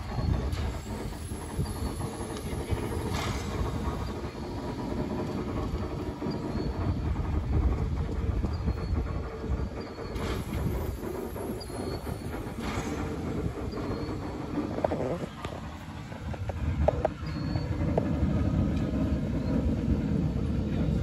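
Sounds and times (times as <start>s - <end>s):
steam hiss: 0.0s - 20.6s
turntable and engine rumble: 0.0s - 21.0s.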